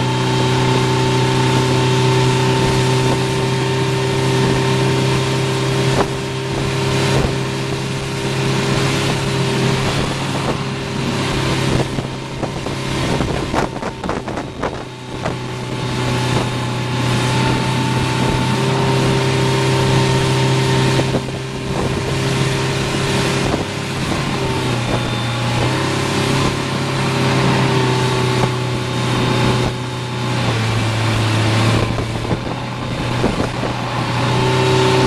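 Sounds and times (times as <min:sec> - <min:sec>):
churning wake rushing: 0:00.0 - 0:35.0
motorboat engine running: 0:00.0 - 0:35.0
wind on microphone: 0:00.0 - 0:35.0.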